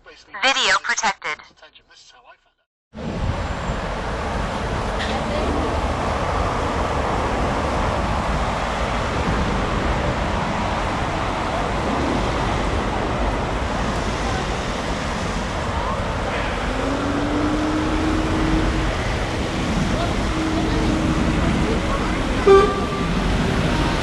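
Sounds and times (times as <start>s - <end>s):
car road and tyre noise: 3.0s - 24.0s.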